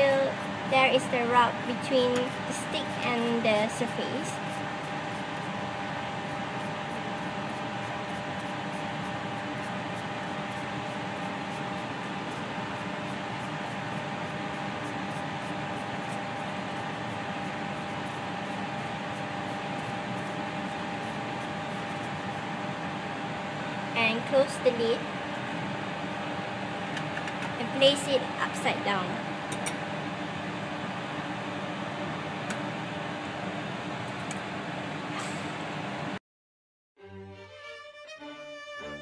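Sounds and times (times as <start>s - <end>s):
air conditioning hiss and hum: 0.0s - 36.2s.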